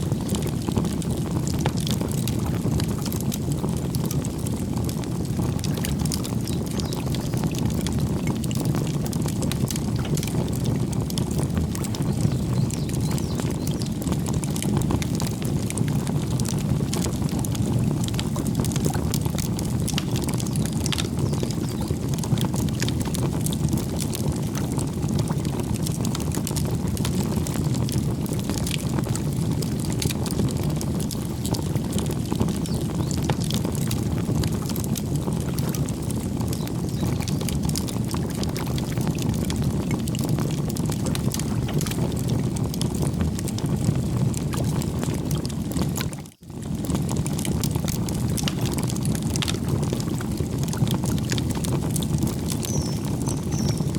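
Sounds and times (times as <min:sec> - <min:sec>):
campfire burning: 0:00.0 - 0:53.9
wood crackling and popping: 0:00.0 - 0:53.9.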